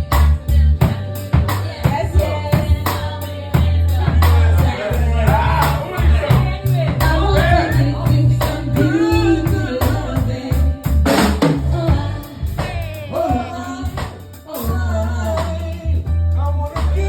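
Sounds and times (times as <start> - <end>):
bending melody line: 0.0 - 15.9
drum kit kick and snare: 0.0 - 17.0
heavy bass line: 0.0 - 17.0.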